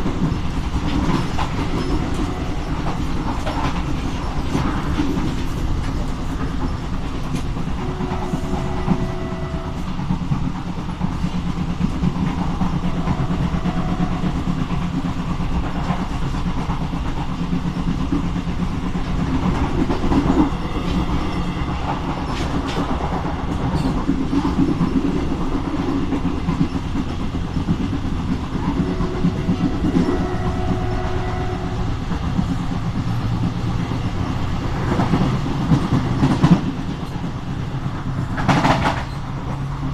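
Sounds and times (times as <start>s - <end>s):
train rumble: 0.0s - 39.9s
wheels clacking over rail joints: 0.0s - 39.9s.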